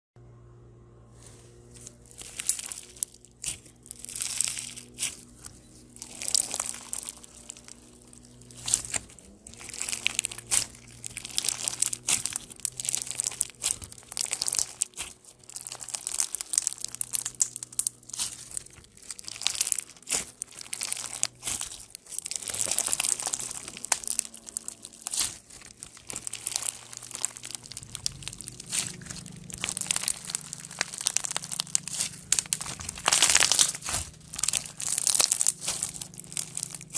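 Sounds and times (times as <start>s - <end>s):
bead-filled slime crackling and popping: 1.8s - 36.9s.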